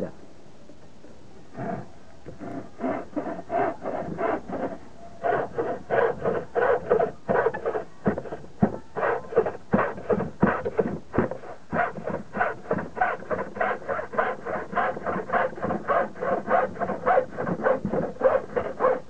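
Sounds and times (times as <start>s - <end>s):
hacksaw cutting board: 2.3s - 19.0s.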